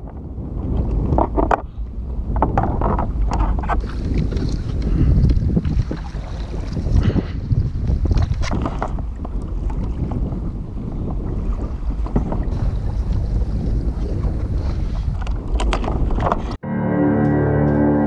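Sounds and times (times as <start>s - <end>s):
water moving around kayak: 0.0s - 16.6s
wind buffeting microphone: 0.0s - 16.6s.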